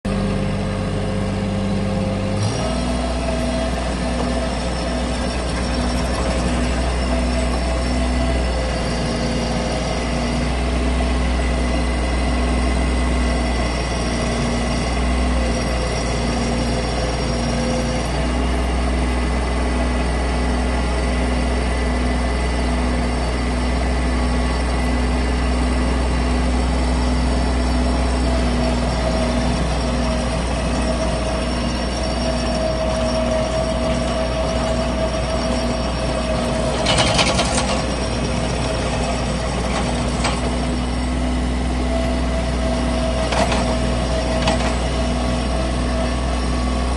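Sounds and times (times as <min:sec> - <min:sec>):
loader engine rumble: 0:00.0 - 0:46.9
whining hydraulics: 0:01.4 - 0:46.9.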